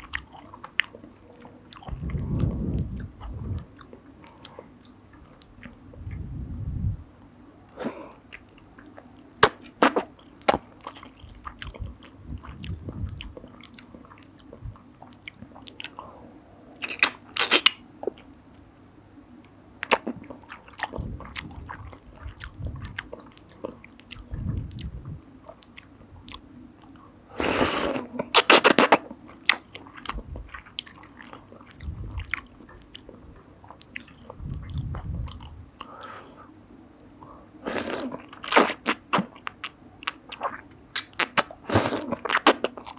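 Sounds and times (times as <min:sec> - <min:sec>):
wet chewing of noodles: 0:00.0 - 0:06.3, 0:07.7 - 0:18.4, 0:19.8 - 0:42.9.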